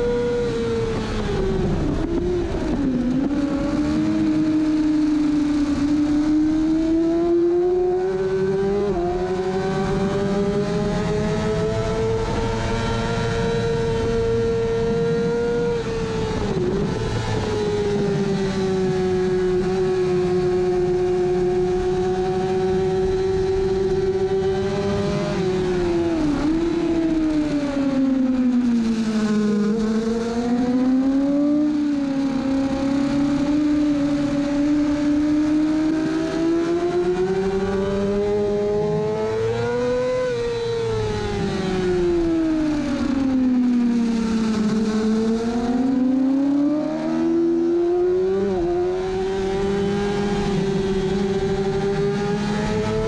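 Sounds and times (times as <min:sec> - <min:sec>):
wind rush: 0:00.0 - 0:47.2
motorcycle engine at high revs: 0:00.0 - 0:53.0.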